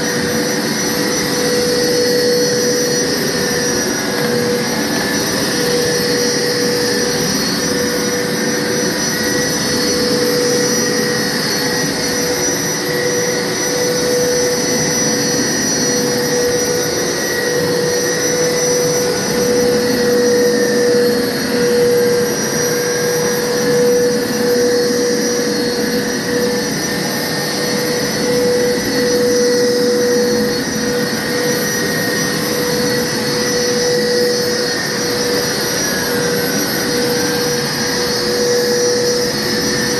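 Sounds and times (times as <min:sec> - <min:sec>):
carpet washer running: 0:00.0 - 0:39.9.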